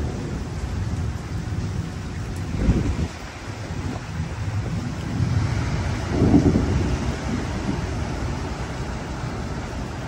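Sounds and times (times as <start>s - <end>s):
rolling thunder: 0.0s - 10.0s.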